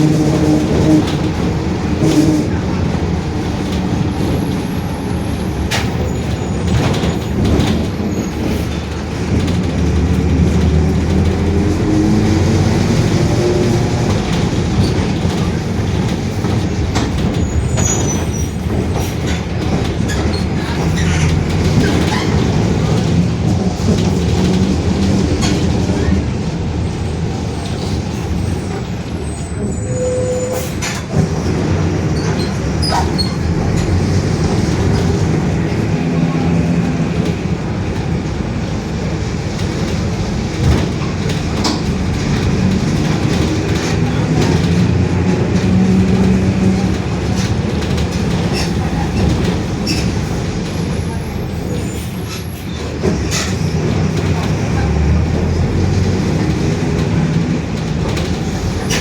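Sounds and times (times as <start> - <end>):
bus body rattling and clicking: 0.0 - 59.0
bus diesel engine running: 0.0 - 59.0.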